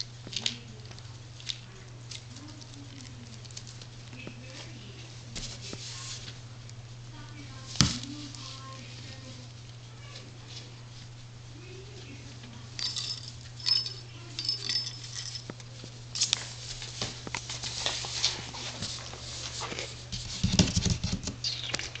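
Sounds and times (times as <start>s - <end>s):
puppy rustling and scratching: 0.0s - 22.0s
steady low hum: 0.0s - 22.0s.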